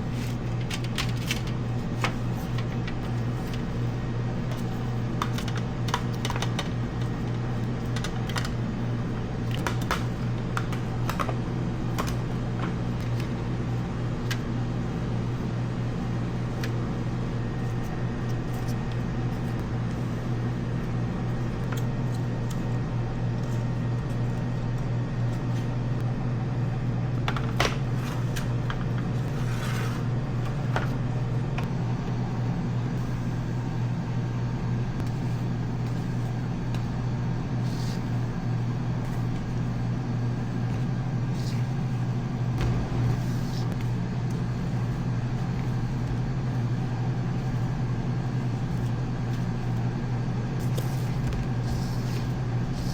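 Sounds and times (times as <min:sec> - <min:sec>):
low machine hum: 0:00.0 - 0:52.9.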